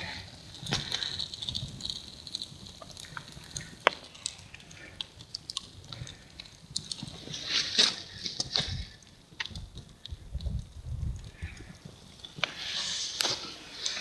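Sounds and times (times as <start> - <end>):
campfire crackling: 0.0 - 14.0
faint hiss: 0.0 - 14.0
fire pop: 0.0 - 14.0.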